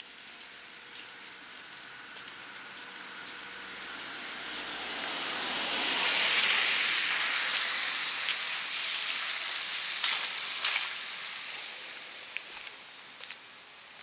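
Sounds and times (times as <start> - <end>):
car tyres hissing on wet road: 0.0 - 14.0.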